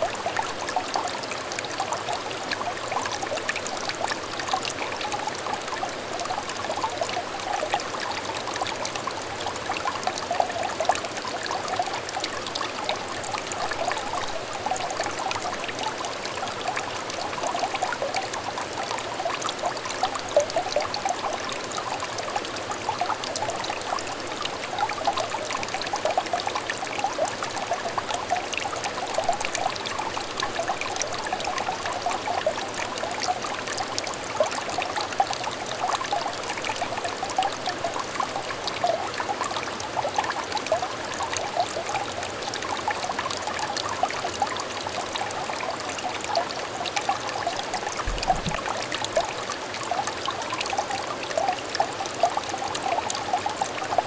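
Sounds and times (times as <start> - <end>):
water trickling in a stream: 0.0 - 54.0.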